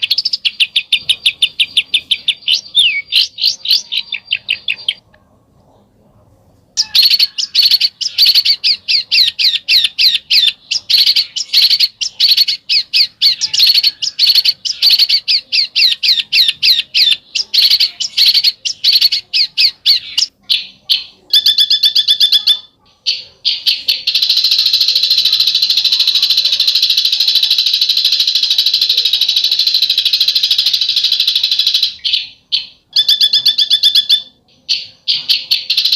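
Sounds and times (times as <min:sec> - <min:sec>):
songbird harsh chatter: 0:00.0 - 0:05.0, 0:06.8 - 0:35.9.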